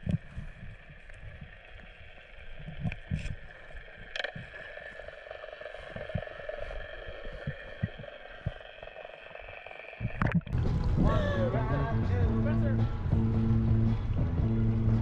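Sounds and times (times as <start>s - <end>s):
steady hum: 0.0s - 15.0s
underwater rumble of moving water: 0.0s - 15.0s.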